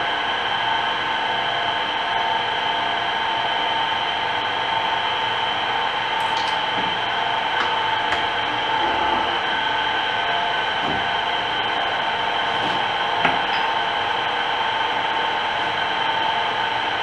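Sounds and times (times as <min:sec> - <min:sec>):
milling machine whine: 0:00.2 - 0:17.0.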